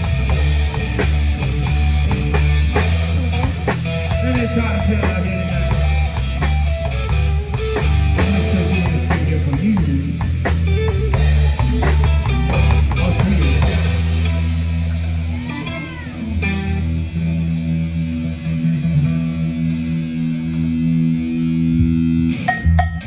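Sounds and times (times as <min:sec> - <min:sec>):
electric guitar and bass ringing: 0:00.0 - 0:23.0.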